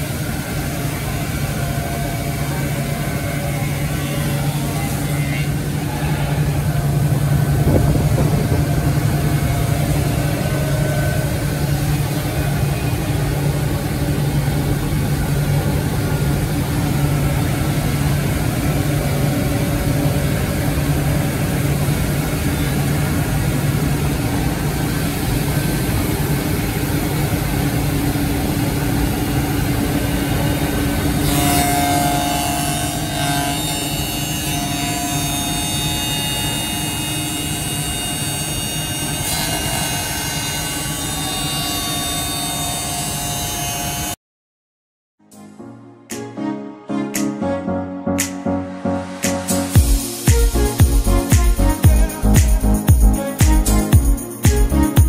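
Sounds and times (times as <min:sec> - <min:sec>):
machine hum: 0:00.0 - 0:43.0, 0:49.5 - 0:55.0
high machine whine: 0:00.0 - 0:44.2, 0:49.4 - 0:55.0.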